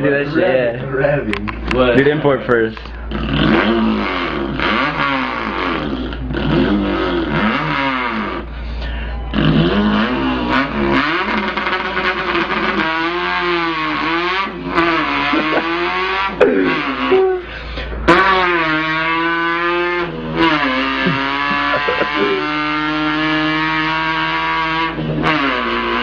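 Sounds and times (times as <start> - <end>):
man imitating car engine revving: 2.9 - 26.0.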